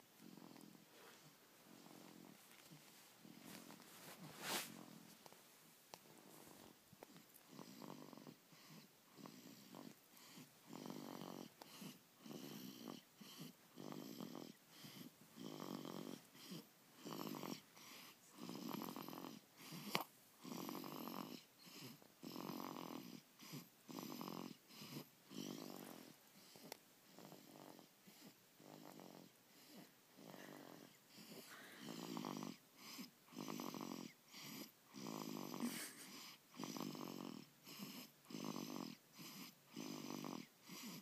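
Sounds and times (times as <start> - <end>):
baby snoring: 0.2 - 2.4, 6.6 - 41.0.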